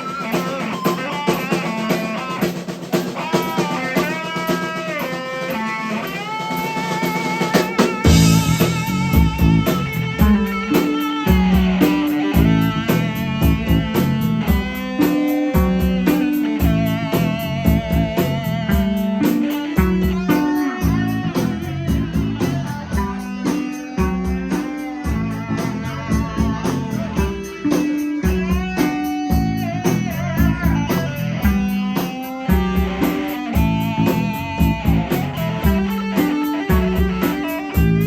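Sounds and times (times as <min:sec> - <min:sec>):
bass guitar: 0:00.0 - 0:38.0
electric guitar lead: 0:00.0 - 0:38.0
steady drum beat: 0:00.0 - 0:38.0.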